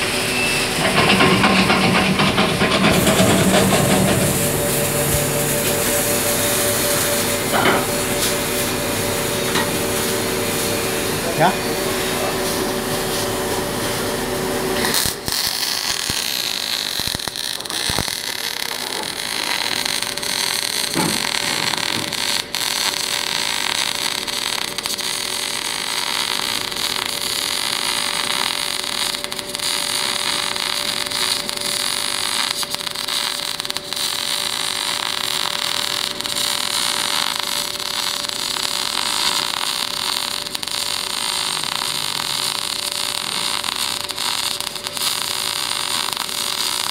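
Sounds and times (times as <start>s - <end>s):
welding arc crackling hiss: 0.0s - 46.9s.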